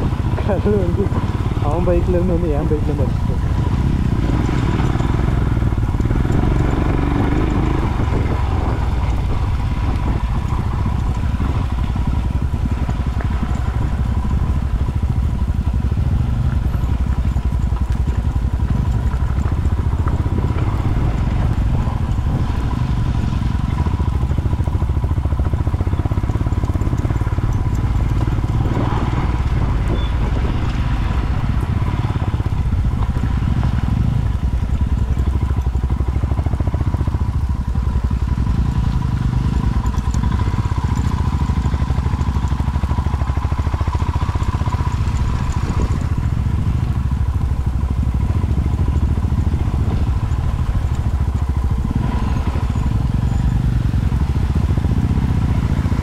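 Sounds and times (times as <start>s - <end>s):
motorcycle engine rumble: 0.0s - 56.0s.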